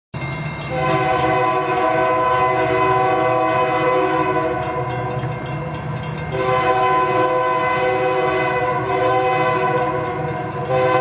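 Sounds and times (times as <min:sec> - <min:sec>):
locomotive air horn blasts: 0:00.7 - 0:05.0, 0:06.3 - 0:11.0.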